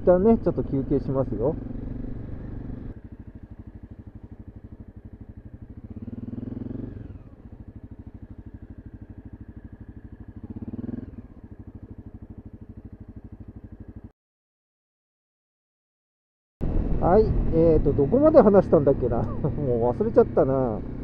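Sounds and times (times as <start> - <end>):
vehicles passing: 0.0 - 13.9, 16.6 - 21.0
vehicle engine running: 0.0 - 14.1, 16.6 - 21.0.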